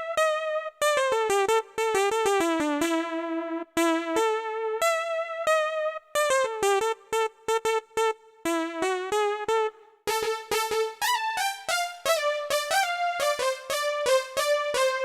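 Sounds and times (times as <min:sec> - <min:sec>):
synthesizer lead melody: 0:00.0 - 0:15.0.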